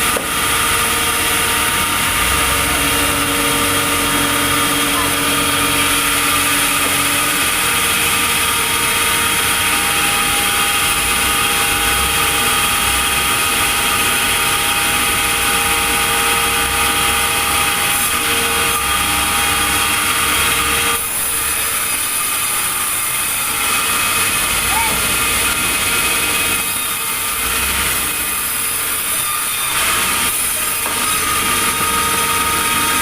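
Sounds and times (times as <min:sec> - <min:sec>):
sawmill machinery whining: 0:00.0 - 0:33.0.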